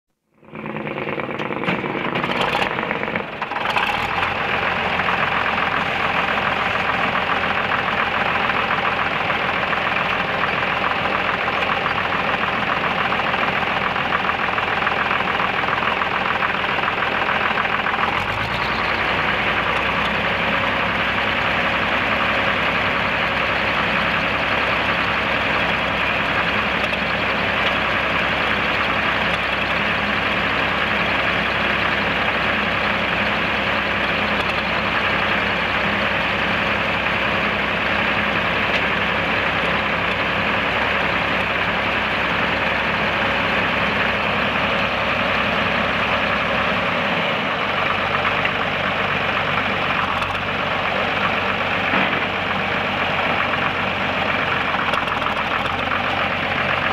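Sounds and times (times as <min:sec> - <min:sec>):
tractor engine running: 0:00.2 - 0:56.9.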